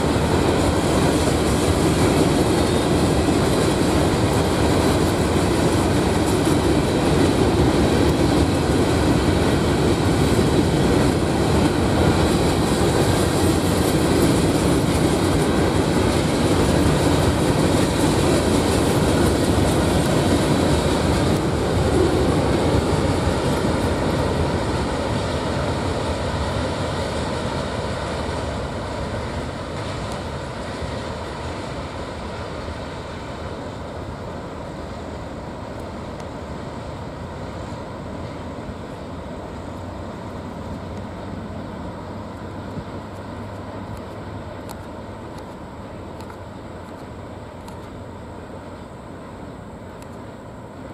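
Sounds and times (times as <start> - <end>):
train wheels rolling on rails: 0.0 - 50.9.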